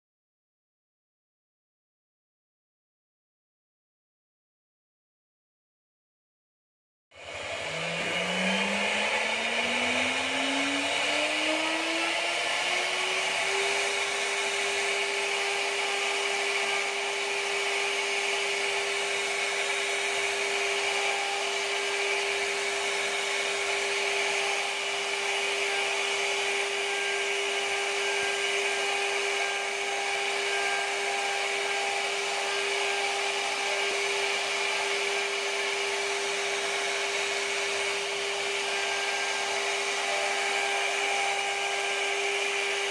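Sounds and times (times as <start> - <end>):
router spindle whining: 7.2 - 42.9
bit carving wood: 7.3 - 42.9.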